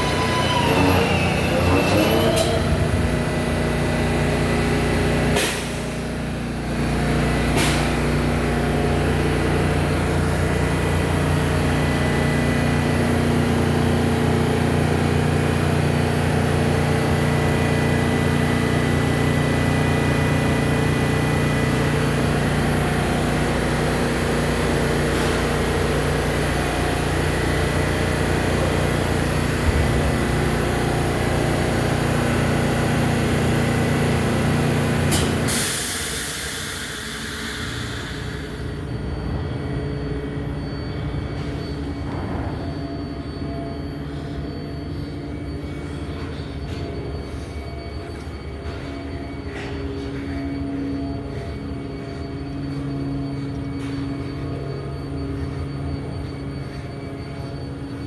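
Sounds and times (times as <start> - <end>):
subway train equipment humming: 0.0 - 58.0.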